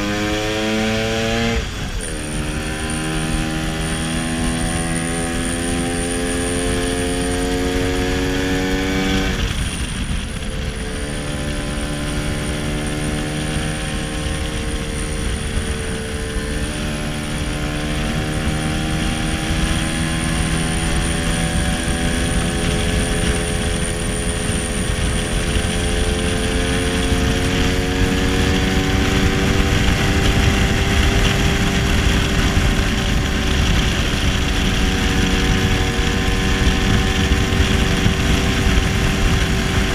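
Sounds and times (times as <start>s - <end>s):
scooter two-stroke engine: 0.0s - 39.9s
wind and road noise: 0.0s - 39.9s.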